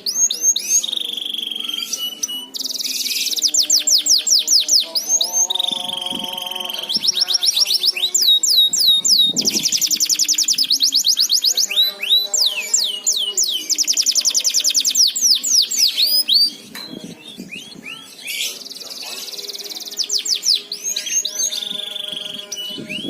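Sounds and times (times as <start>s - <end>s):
canary singing trills and whistles: 0.0s - 23.0s.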